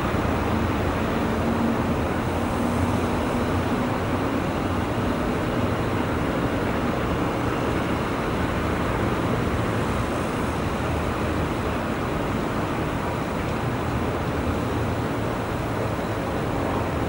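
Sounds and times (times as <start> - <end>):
jet airliners taxiing: 0.0 - 17.0
passing vehicles: 0.0 - 17.0.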